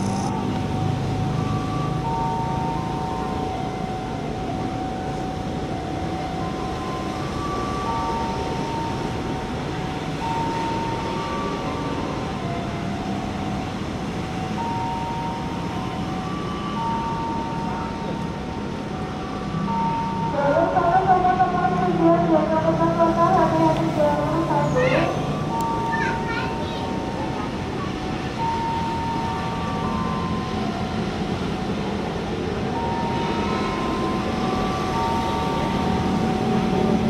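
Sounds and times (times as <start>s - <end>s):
slow tune of pure notes: 0.1s - 26.0s, 28.2s - 37.0s.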